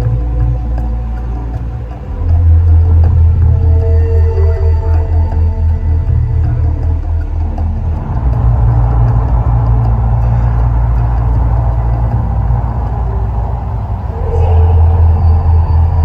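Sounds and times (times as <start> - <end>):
deep rumble with roar: 0.0 - 16.0.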